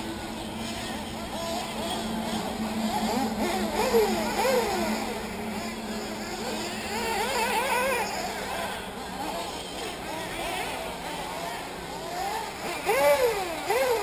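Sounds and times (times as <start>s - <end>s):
model car engines revving whine: 0.0s - 14.0s
steady low hum: 0.0s - 14.0s.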